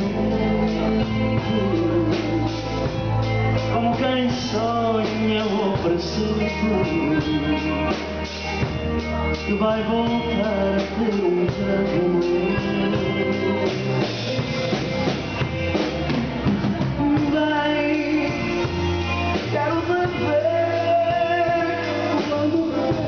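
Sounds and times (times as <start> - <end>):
band playing: 0.0 - 23.0
person singing: 0.0 - 23.0.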